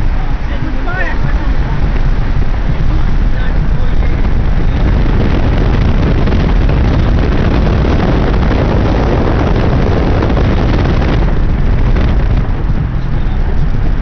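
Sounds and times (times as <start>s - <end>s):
vehicle engine and road rumble: 0.0s - 14.0s
wind buffeting microphone: 0.0s - 14.0s.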